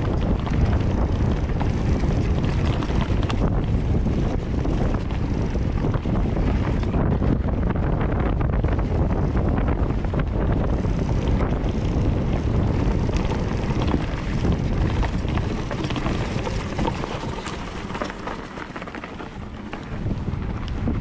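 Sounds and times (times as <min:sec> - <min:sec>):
tyres rolling over dirt and stones: 0:00.0 - 0:07.4, 0:08.9 - 0:21.0
bike rattling: 0:00.0 - 0:21.0
wind rumbling on microphone: 0:00.0 - 0:21.0.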